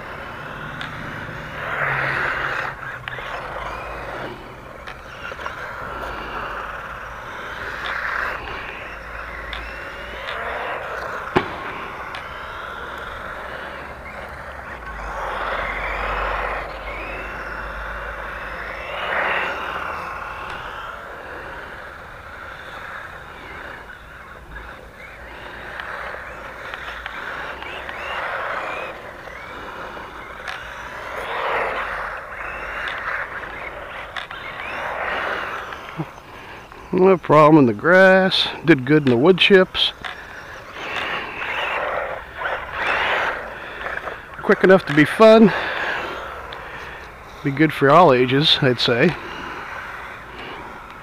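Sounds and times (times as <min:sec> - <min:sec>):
toy car motor whine: 0:00.0 - 0:51.0
tyre noise on asphalt: 0:00.0 - 0:51.0.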